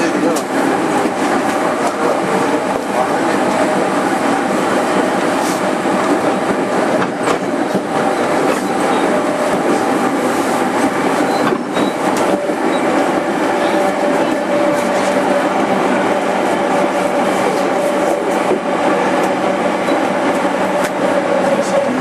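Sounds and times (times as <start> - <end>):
train running hum: 0.0 - 22.0
train wheels rumbling on rails: 0.0 - 22.0.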